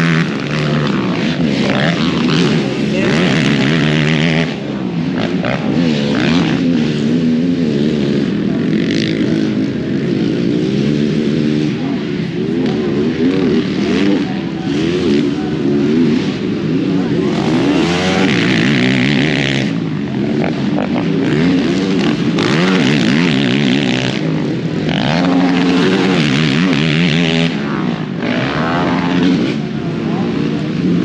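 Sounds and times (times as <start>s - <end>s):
quad bike engines revving: 0.0s - 31.0s.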